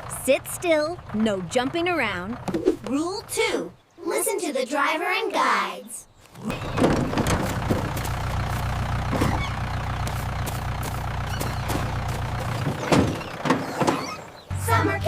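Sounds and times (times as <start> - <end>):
vehicle engine starting and running: 0.0 - 3.9, 6.3 - 15.0.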